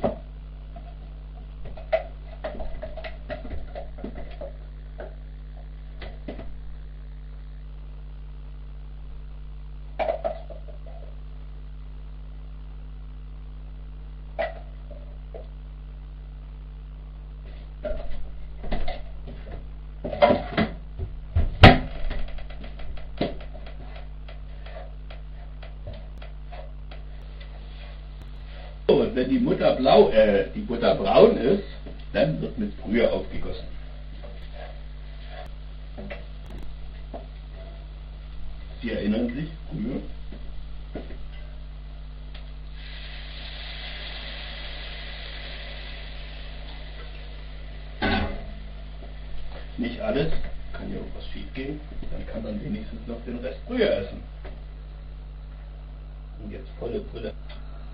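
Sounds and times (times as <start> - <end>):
steady sizzle: 0.0 - 57.8
electrical hum: 0.0 - 57.9.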